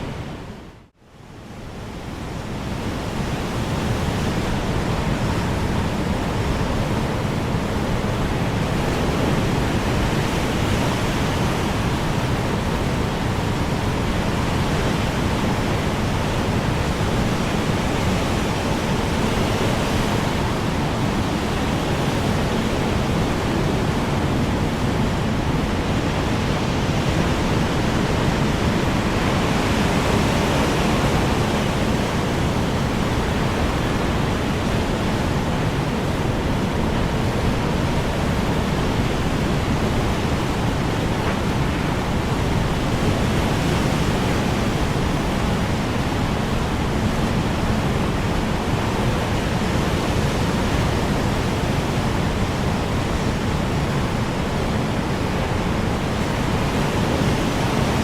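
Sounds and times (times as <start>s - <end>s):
strong wind rushing: 2.2s - 58.0s.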